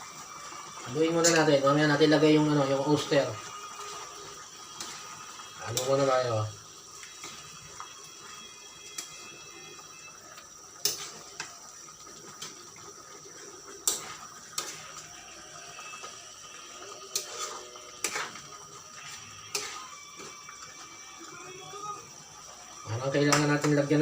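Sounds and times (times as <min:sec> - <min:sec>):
sauce bubbling in pan: 0:00.0 - 0:24.0.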